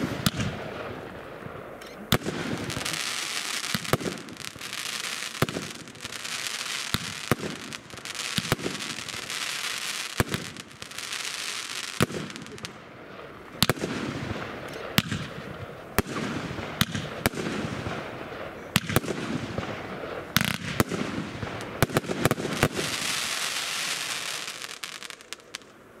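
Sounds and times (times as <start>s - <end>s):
fireworks shots: 0.0s - 25.7s
crackle of bursting fireworks: 0.0s - 26.0s.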